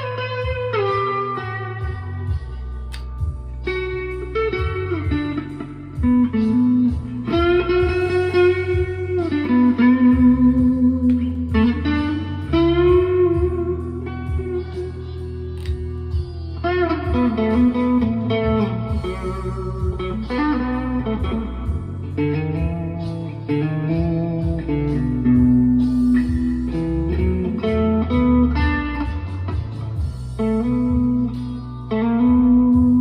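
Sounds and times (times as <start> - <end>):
electric guitar lead line: 0.0 - 33.0
steady low notes: 0.1 - 33.0.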